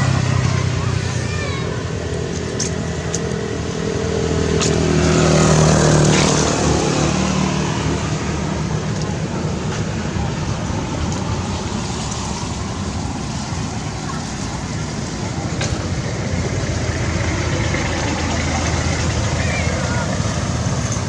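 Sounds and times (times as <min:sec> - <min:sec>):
vehicle engine passing by: 0:00.0 - 0:21.0.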